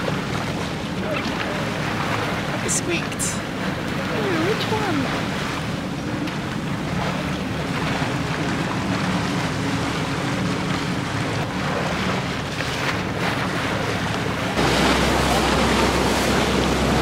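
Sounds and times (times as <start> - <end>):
boat engine humming: 0.0 - 17.0
water rushing along hull: 0.0 - 17.0.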